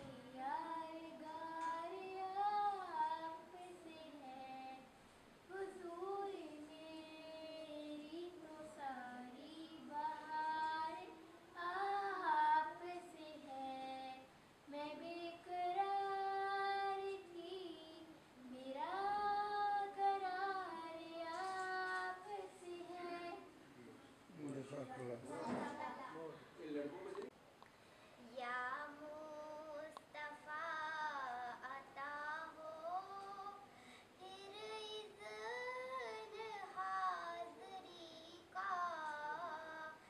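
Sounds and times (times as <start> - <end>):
girl singing unaccompanied: 0.0 - 26.1, 28.2 - 40.0.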